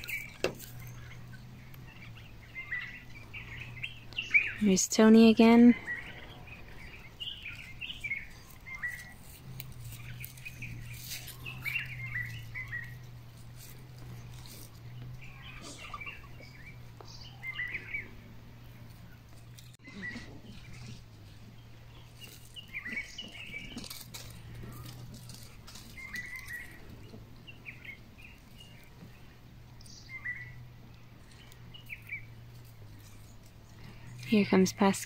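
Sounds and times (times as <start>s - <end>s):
faint rustles and clicks: 0.0s - 35.0s
steady low hum: 0.0s - 35.0s.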